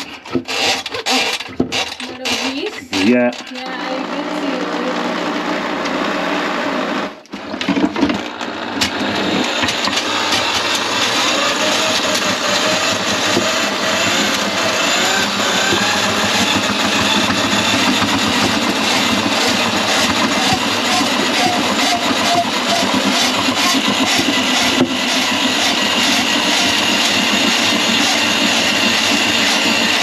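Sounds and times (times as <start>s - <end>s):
electric drain snake running: 0.0s - 30.0s.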